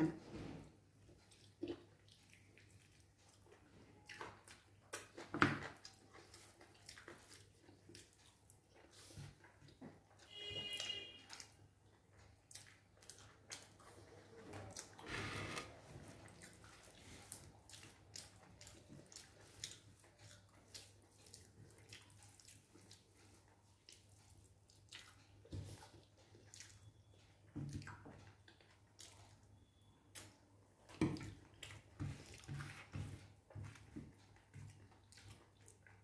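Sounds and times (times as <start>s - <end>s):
chewing and mouth clicks: 1.0s - 36.0s.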